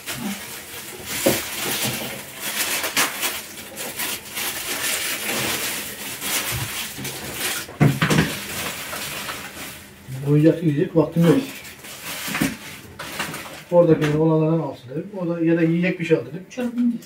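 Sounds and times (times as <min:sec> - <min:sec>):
crackly rustling of bread: 0:00.0 - 0:14.2.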